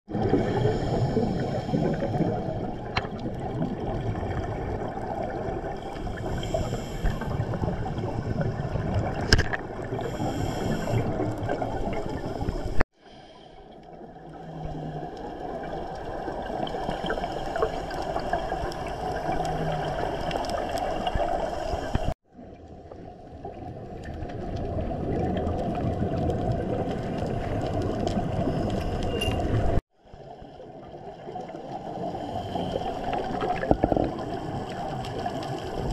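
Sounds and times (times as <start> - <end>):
underwater rush of water: 0.1 - 35.9.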